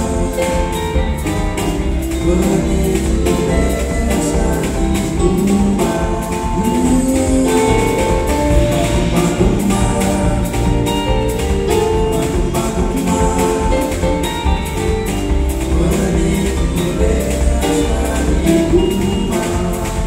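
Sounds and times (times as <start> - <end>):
drum kit beat: 0.0 - 20.0
electric bass: 0.0 - 20.0
electric guitar: 0.0 - 20.0
keyboards: 0.0 - 20.0
man singing: 0.0 - 20.0.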